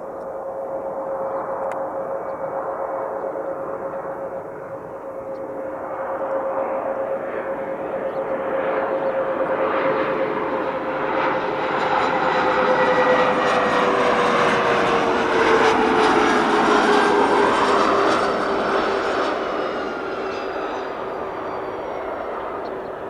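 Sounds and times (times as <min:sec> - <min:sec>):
jet engines passing by: 0:00.0 - 0:23.0.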